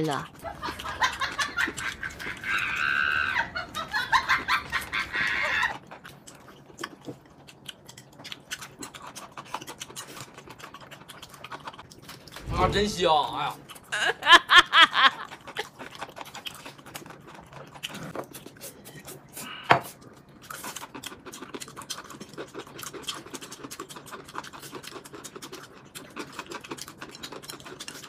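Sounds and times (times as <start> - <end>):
crisp chewing: 0.1 - 12.5, 15.2 - 28.0.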